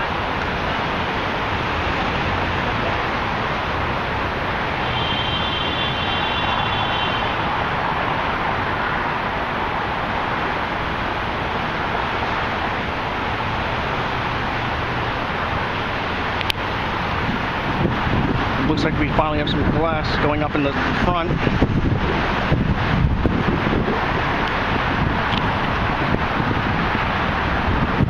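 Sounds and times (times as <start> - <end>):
city traffic roar: 0.0 - 28.0.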